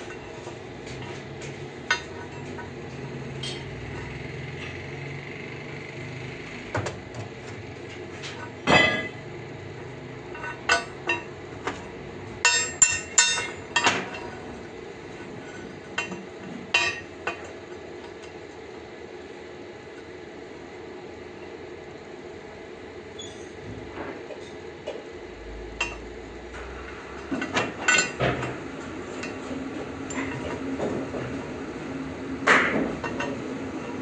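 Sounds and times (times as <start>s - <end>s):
workshop background noise: 0.0s - 34.0s.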